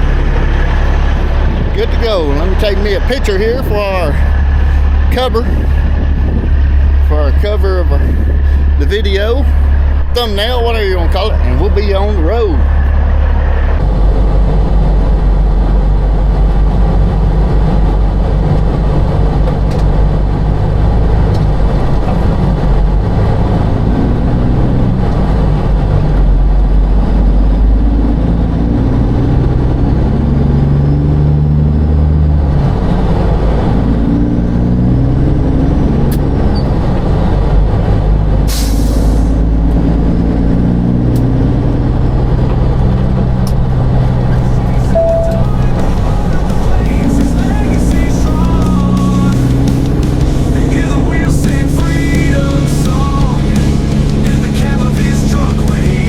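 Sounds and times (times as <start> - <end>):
diesel truck engine rumbling: 0.0 - 56.0.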